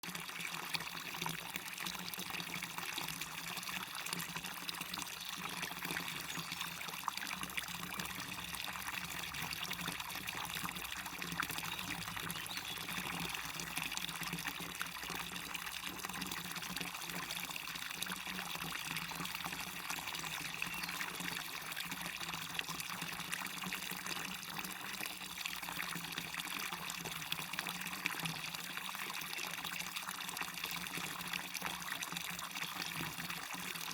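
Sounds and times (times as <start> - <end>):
waterfall pouring: 0.0 - 33.9.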